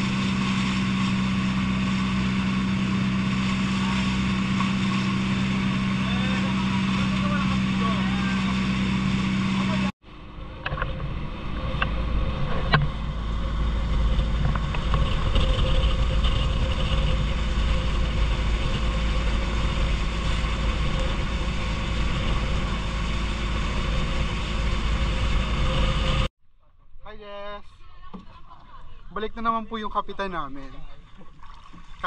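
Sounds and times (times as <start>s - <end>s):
boat engine running: 0.0s - 26.3s.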